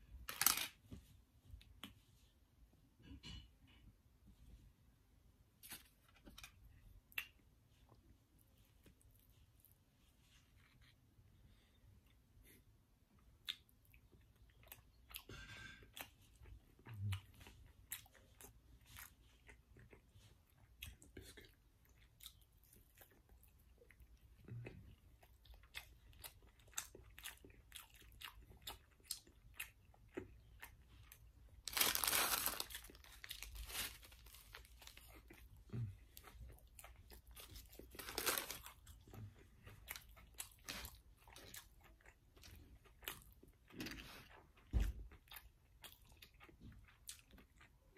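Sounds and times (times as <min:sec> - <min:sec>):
chewing and eating: 0:05.6 - 0:47.9.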